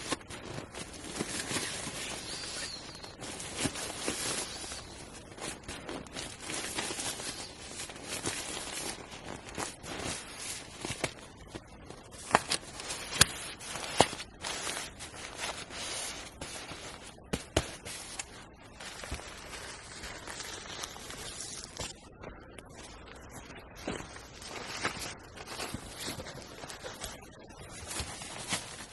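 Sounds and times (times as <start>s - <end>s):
rustling and crinkling: 0.0s - 28.9s.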